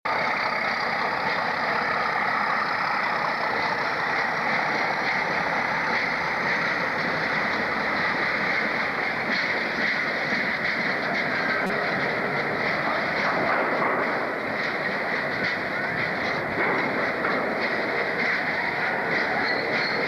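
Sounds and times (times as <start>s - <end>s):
train engine and wheels: 0.1s - 20.0s.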